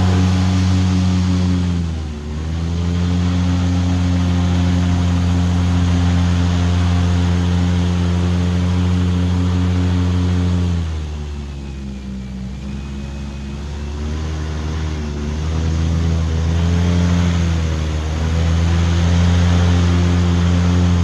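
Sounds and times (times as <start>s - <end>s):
airboat engine and propeller: 0.0s - 21.0s.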